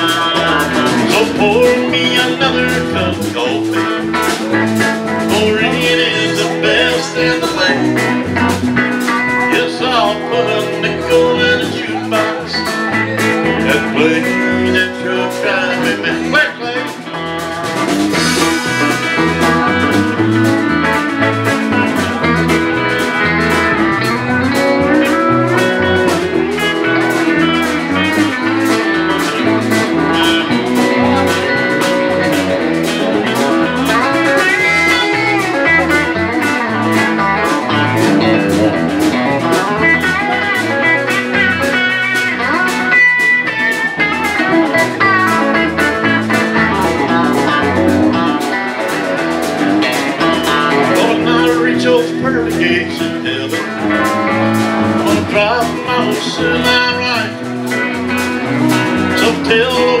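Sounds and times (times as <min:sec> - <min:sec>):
drum kit beat: 0:00.0 - 1:00.0
electric bass: 0:00.0 - 1:00.0
electric guitars: 0:00.0 - 1:00.0.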